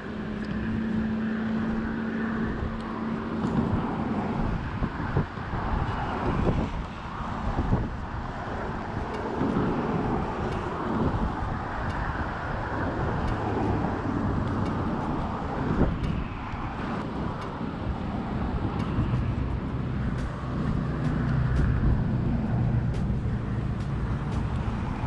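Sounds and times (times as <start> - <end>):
road traffic rumble: 0.0 - 25.0
wind buffeting microphone: 0.0 - 25.0.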